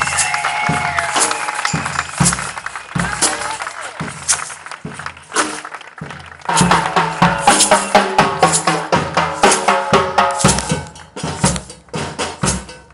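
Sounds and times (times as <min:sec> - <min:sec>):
bass drums: 0:00.0 - 0:12.9
samba drum band: 0:00.0 - 0:12.9
snare drums: 0:00.0 - 0:12.9.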